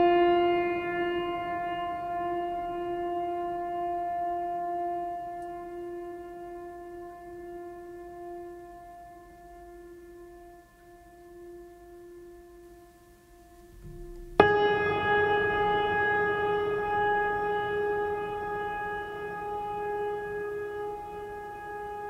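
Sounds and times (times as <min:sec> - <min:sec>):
music of long held notes: 0:00.0 - 0:22.0.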